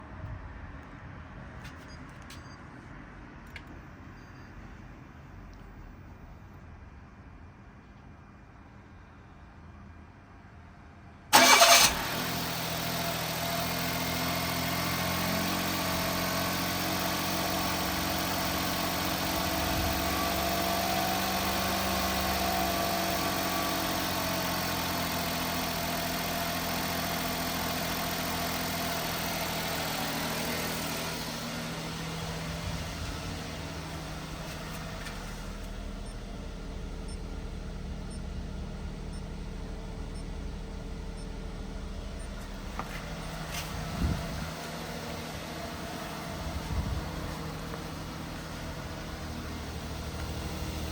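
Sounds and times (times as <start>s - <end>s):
car engine starting and idling: 5.2s - 50.9s.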